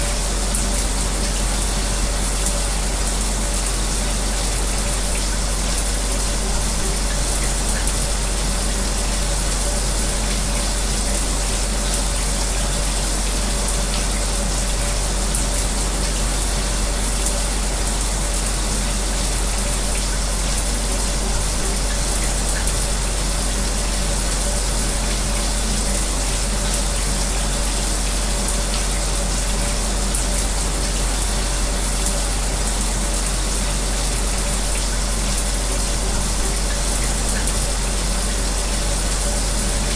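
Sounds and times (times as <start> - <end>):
shower spray running: 0.0 - 39.9.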